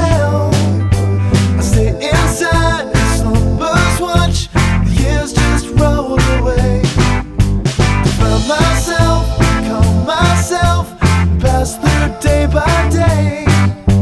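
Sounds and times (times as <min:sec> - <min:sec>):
rock song with drums and bass: 0:00.0 - 0:14.0.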